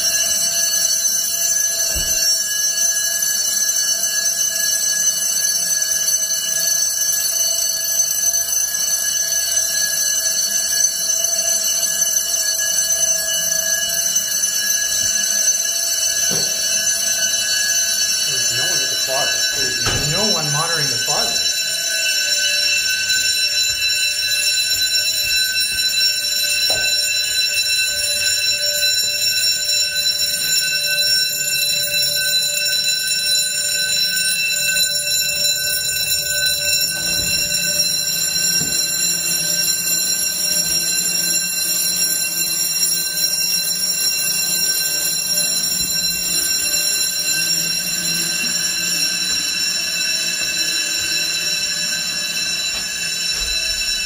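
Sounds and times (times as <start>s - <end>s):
fire alarm bells ringing: 0.0s - 54.0s.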